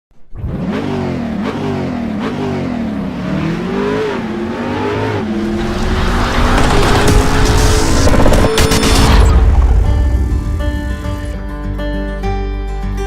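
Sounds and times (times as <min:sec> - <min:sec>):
car engine revving: 0:00.3 - 0:11.4.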